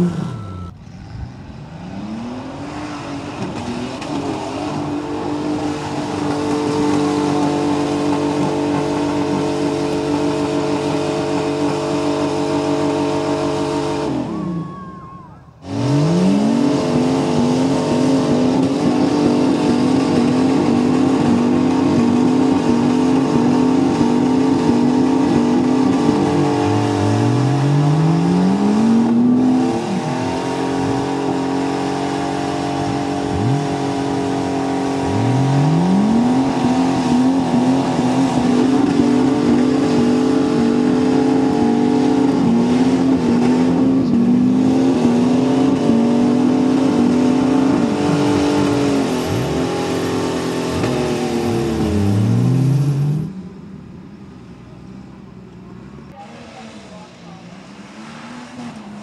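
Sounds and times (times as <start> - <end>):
engine revving high: 0.0 - 1.0, 1.6 - 14.7, 15.6 - 53.4
tyres churning in mud: 0.0 - 53.4, 56.1 - 59.0.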